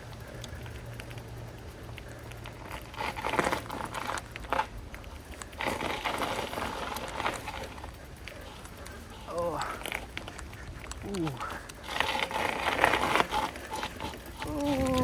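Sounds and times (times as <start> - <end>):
bicycle tyres crunching on trail: 0.0 - 15.0.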